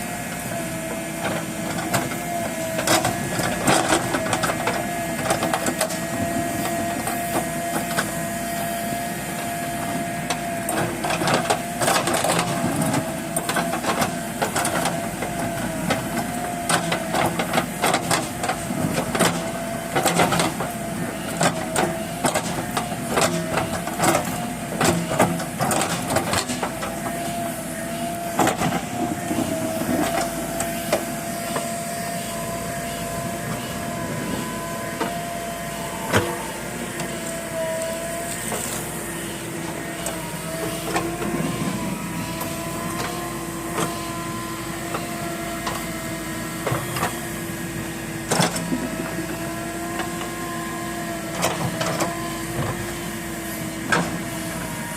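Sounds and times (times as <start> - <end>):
backhoe loader whine: 0.0 - 54.9.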